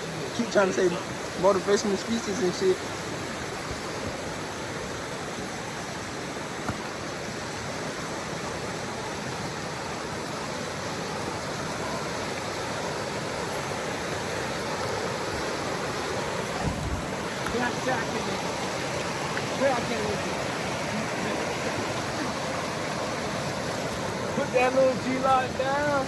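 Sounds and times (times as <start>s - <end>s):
creek water over rocks: 0.0s - 26.0s.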